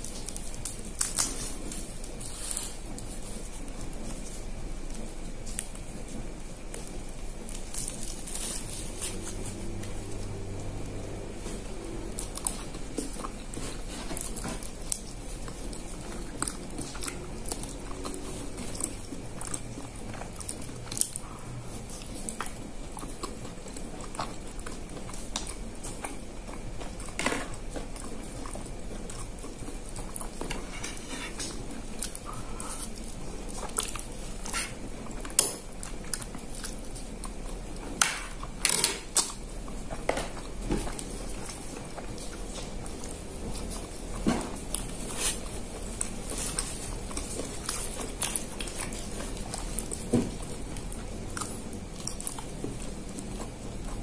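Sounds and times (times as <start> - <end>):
leaf wrapper being peeled: 0.0 - 23.0, 28.8 - 54.0
chewing food: 0.0 - 54.0
steady low hum: 0.0 - 54.0.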